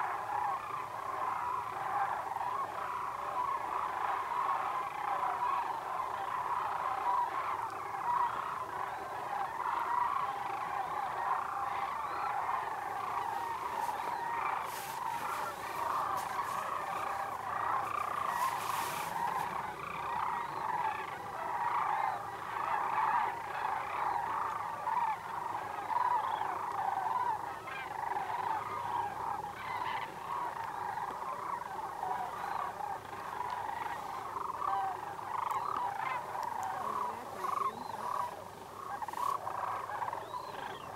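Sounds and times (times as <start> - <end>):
cranes calling: 0.0 - 40.9.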